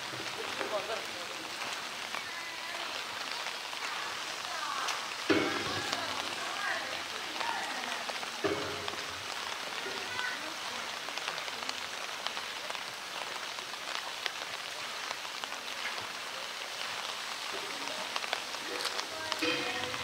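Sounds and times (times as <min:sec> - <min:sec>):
rain on rock and concrete: 0:00.0 - 0:20.0.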